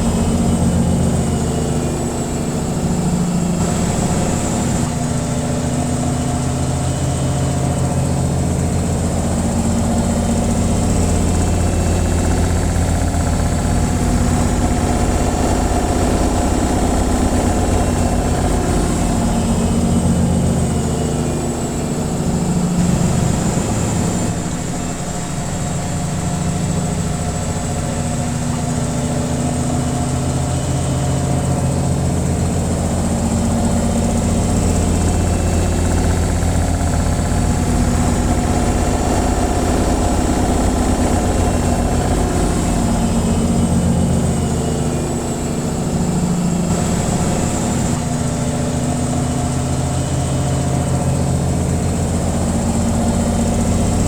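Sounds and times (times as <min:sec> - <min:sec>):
washing machine spinning hum: 0:00.0 - 0:54.0.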